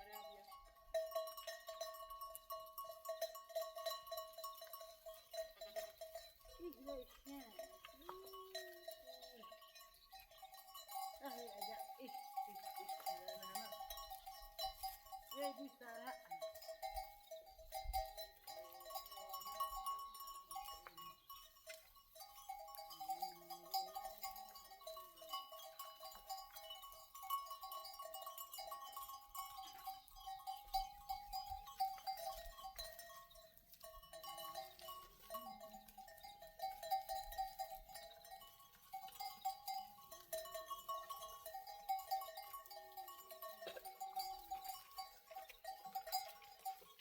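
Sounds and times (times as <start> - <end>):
animal bells clinking: 0.0 - 47.0
sheep and goats bleating: 0.0 - 47.0.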